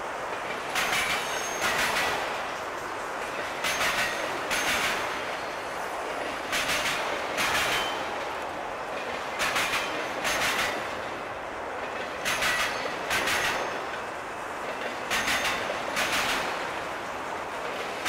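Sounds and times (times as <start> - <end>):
train rolling noise: 0.0 - 18.0
train wheels clacking over rail joints: 0.3 - 18.0.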